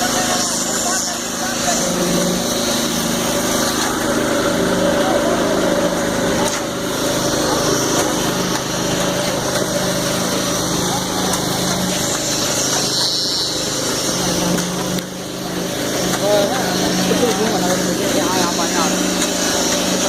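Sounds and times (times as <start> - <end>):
pump engine droning: 0.0 - 20.0.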